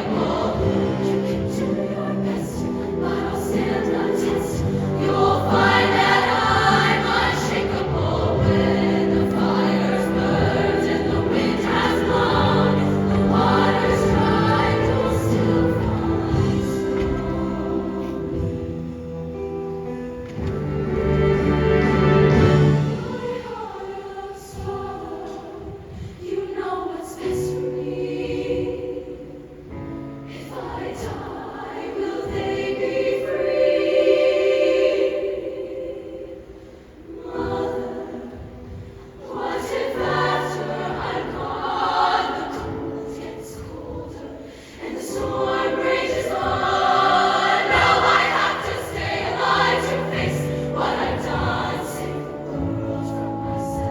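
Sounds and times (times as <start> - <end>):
choir singing in chords: 0.0 - 53.9.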